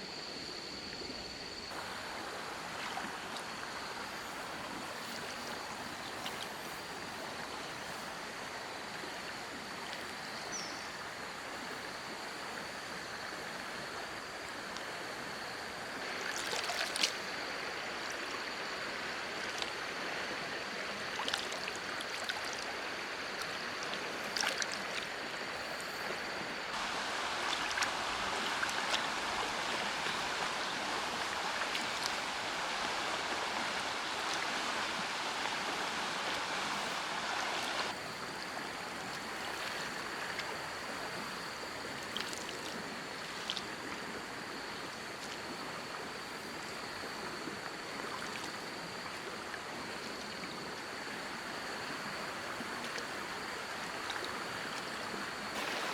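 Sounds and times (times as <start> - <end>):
rain hiss: 0.0 - 47.7, 50.2 - 55.9.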